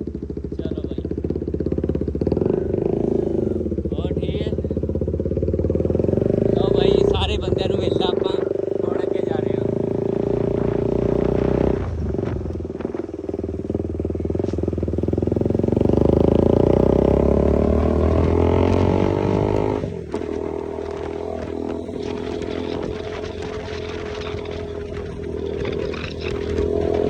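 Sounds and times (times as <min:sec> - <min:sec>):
motorcycle accelerating: 0:00.0 - 0:27.0.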